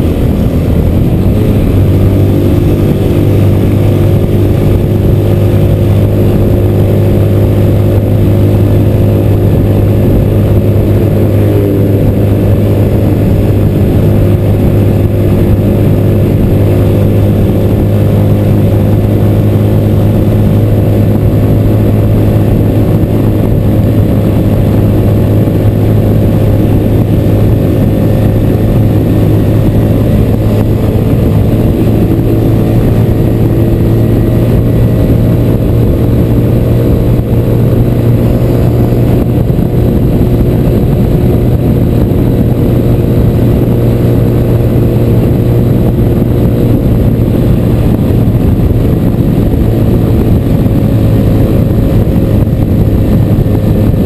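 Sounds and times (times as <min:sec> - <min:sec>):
motorcycle engine running: 0:00.0 - 0:54.0
wind rushing on microphone: 0:00.0 - 0:54.0.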